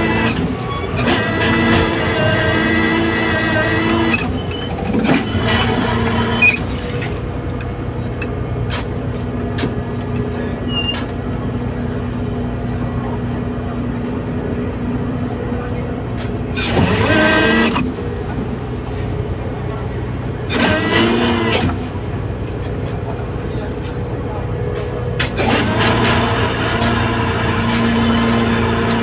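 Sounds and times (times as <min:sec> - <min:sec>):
diesel machinery droning: 0:00.0 - 0:29.0.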